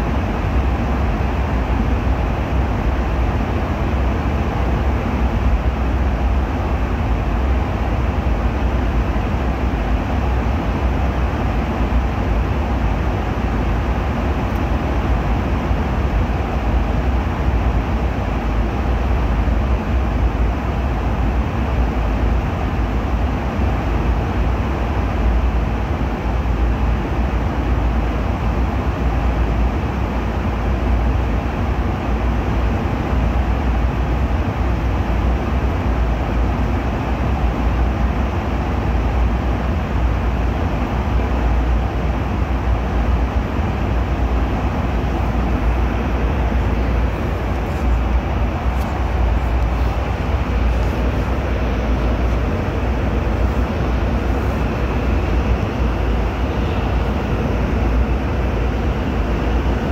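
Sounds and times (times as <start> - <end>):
airliner engines droning: 0.0 - 59.9.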